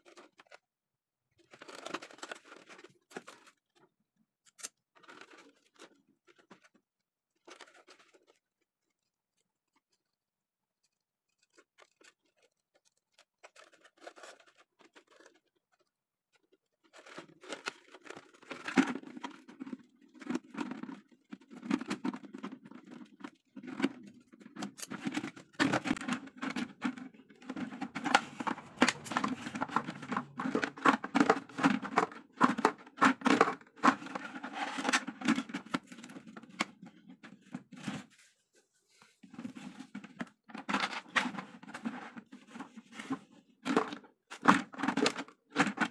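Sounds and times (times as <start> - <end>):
plastic crackling and crinkling: 0.0 - 0.7, 1.3 - 45.9.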